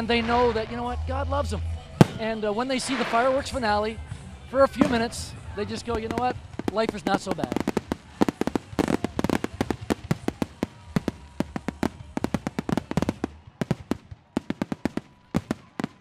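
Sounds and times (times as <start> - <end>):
firework shells crackling and popping: 2.0 - 3.7, 4.8 - 16.0
loud firework bangs: 2.0 - 3.8, 4.8 - 16.0.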